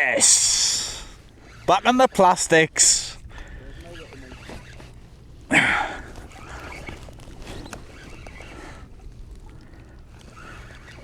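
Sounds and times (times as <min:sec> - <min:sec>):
water splashing against kayak hull: 0:00.0 - 0:11.0.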